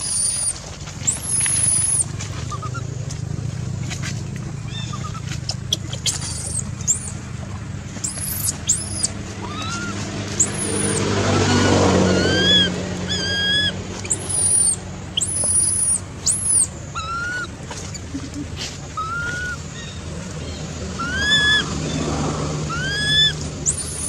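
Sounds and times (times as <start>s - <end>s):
high chirping calls: 0.0s - 2.9s, 4.6s - 7.2s, 8.0s - 24.0s.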